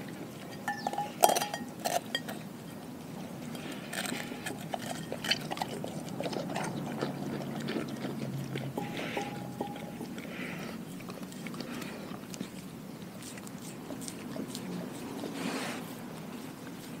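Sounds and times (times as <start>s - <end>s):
dog slurping and licking food: 0.0s - 17.0s.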